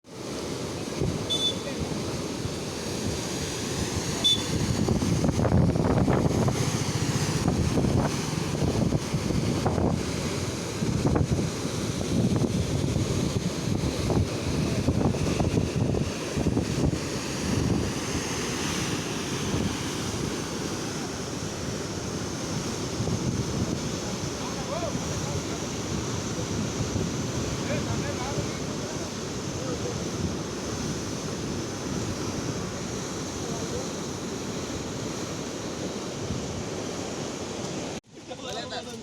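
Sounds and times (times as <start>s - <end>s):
flood water rushing over dam: 0.1s - 39.0s
wind buffeting microphone: 0.8s - 36.9s.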